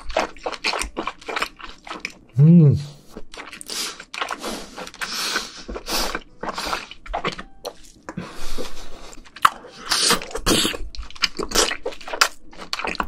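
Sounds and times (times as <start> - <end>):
close chewing with mouth smacks: 0.0 - 2.4, 3.0 - 13.0.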